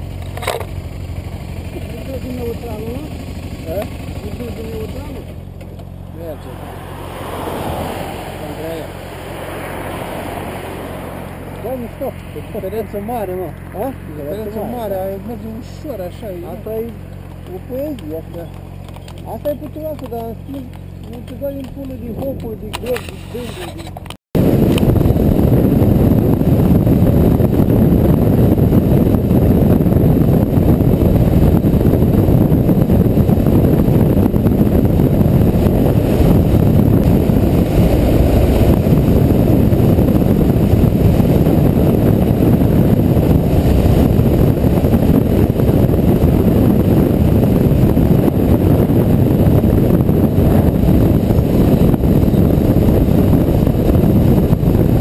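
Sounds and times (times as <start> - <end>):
motorcycle engine: 0.0 - 55.0
wind buffeting microphone: 0.8 - 55.0.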